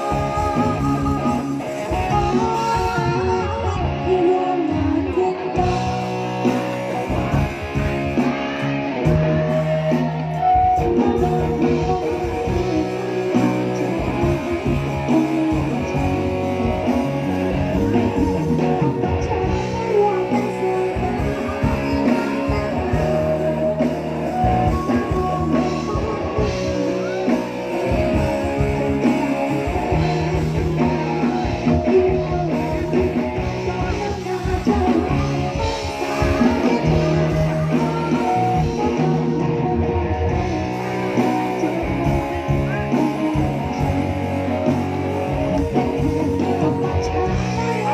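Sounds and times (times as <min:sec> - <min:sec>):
guitar: 0:00.0 - 0:47.9
live band playing: 0:00.0 - 0:47.9.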